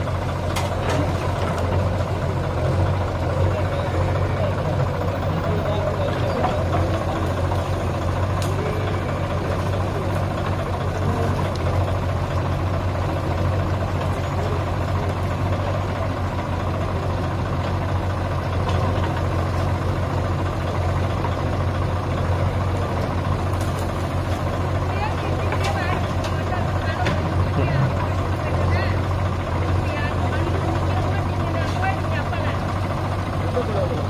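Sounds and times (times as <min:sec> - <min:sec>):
diesel engines running steadily: 0:00.0 - 0:34.0.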